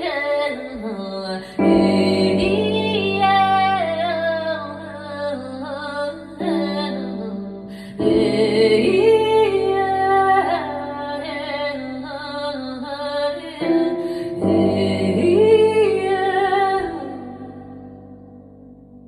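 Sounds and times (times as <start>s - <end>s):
woman singing wordless phrases: 0.0s - 18.0s.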